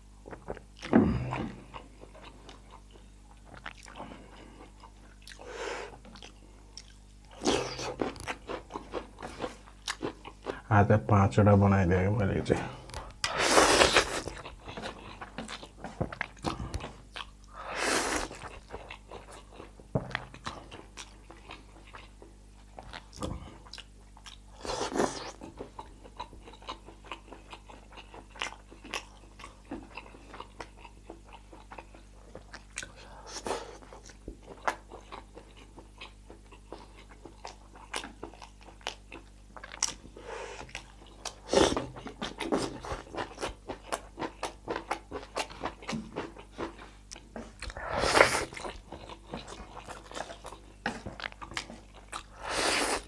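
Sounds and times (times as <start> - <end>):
chewing with wet clicks: 0.2 - 10.6, 14.1 - 17.6, 18.2 - 52.4.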